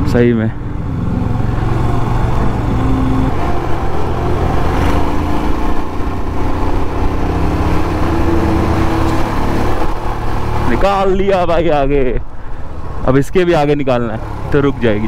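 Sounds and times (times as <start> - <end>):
motorcycle engine running: 0.0 - 12.9
road and wind noise: 0.0 - 15.0.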